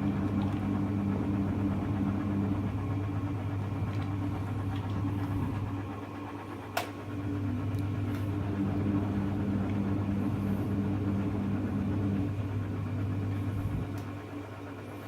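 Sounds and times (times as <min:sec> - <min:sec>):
pulsing whine: 0:00.0 - 0:15.0
washing machine motor hum: 0:00.0 - 0:15.0.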